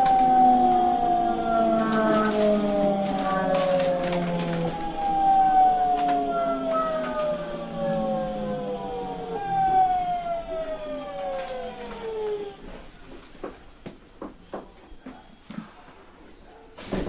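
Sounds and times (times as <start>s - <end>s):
subway train inverter whining: 0.0s - 15.0s.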